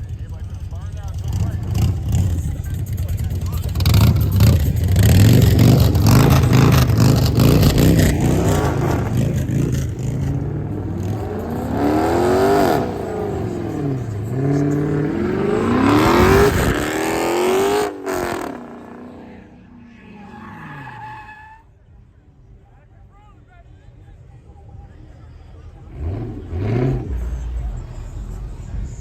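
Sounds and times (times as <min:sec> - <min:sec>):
car engine revving: 0:00.0 - 0:21.2, 0:25.4 - 0:29.0.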